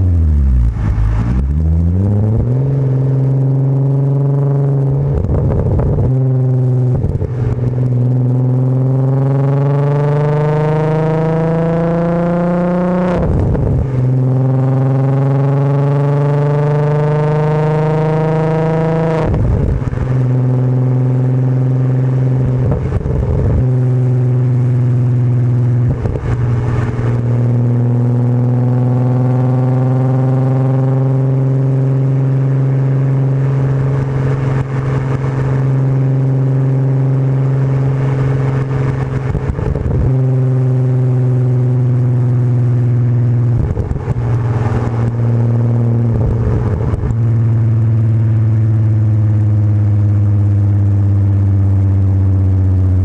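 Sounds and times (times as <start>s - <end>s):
car exhaust droning: 0.0s - 53.0s.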